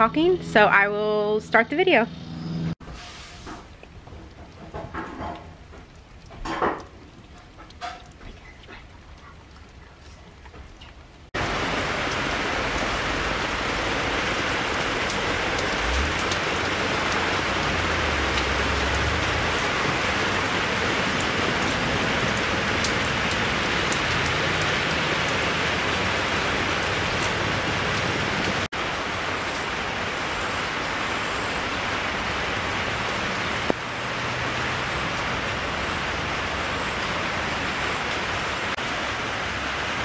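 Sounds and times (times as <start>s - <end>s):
rain falling on puddles: 3.4s - 40.0s.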